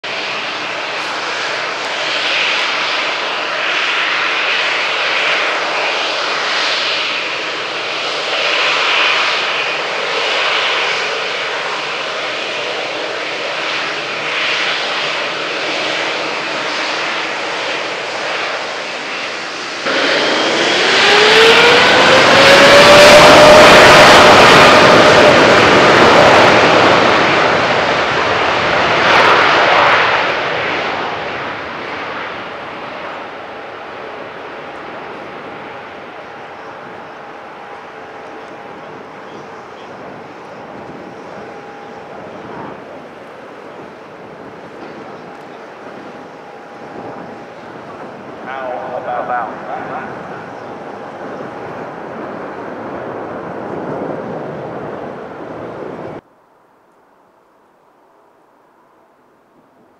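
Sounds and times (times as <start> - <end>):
jet engines whining: 0.0 - 56.2.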